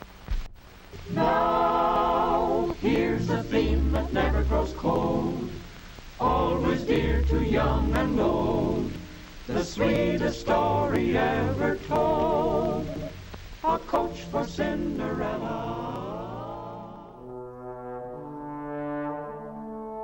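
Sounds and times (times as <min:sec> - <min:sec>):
voices singing with vibrato: 0:01.0 - 0:17.2.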